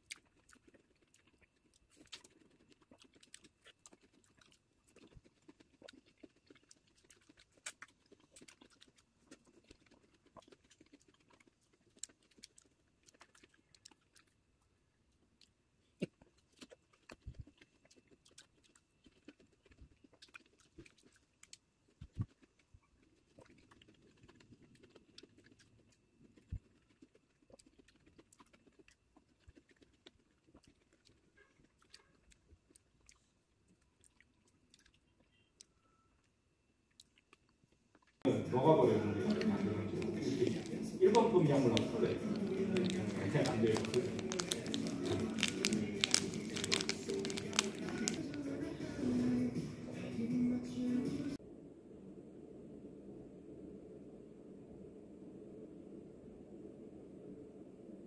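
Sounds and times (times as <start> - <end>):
soft chewing: 0.0 - 50.2.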